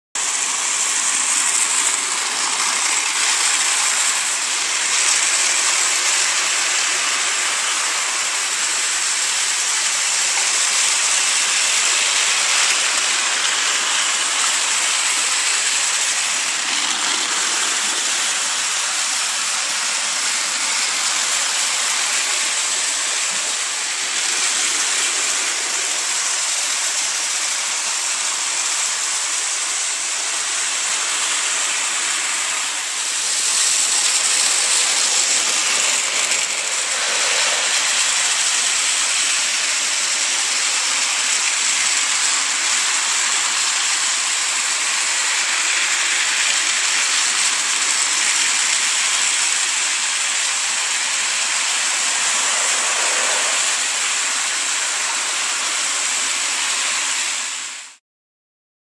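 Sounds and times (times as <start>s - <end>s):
toy train motors whirring: 0.2s - 58.0s.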